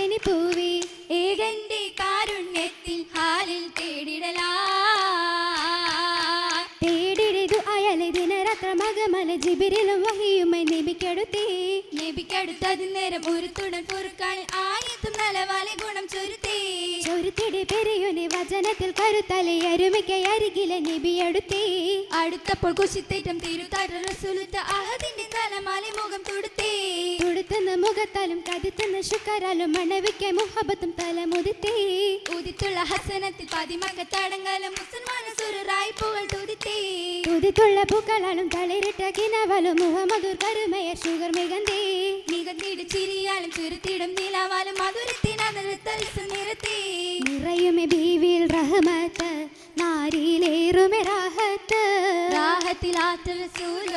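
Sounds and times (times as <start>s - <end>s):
rhythmic hand claps: 0.0s - 53.9s
women singing: 0.0s - 53.9s.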